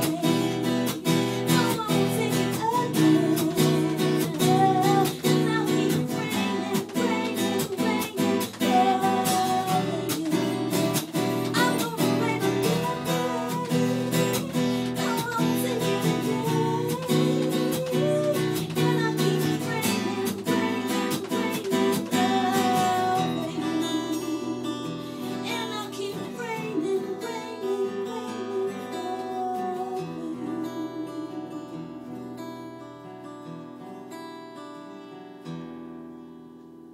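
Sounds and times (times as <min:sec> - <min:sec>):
woman singing: 0:00.0 - 0:33.1
acoustic guitar strummed: 0:00.0 - 0:36.9.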